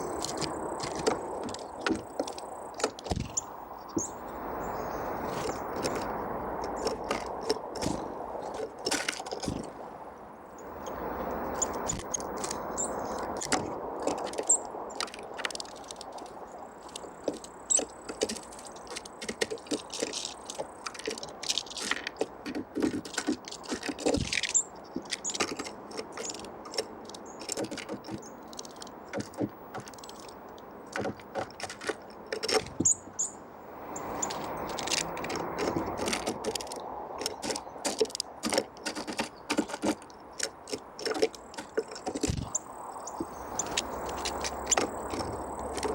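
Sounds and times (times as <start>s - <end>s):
thin high bird calls: 0.0s - 9.7s, 10.5s - 22.3s, 22.9s - 31.2s, 32.0s - 38.4s, 39.0s - 45.9s
birds pecking at seeds: 0.0s - 45.9s.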